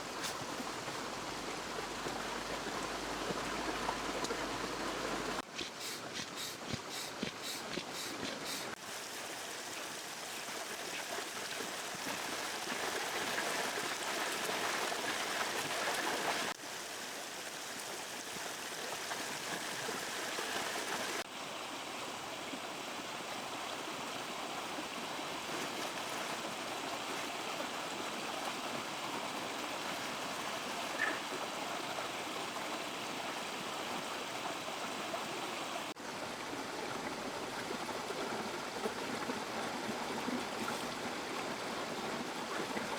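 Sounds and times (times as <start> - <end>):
river flowing over stones: 0.0 - 42.9.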